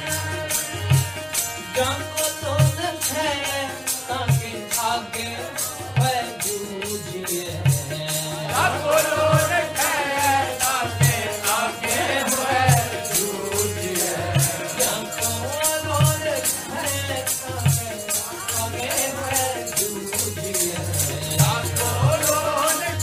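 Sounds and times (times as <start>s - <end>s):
fast rattling percussion: 0.0s - 23.0s.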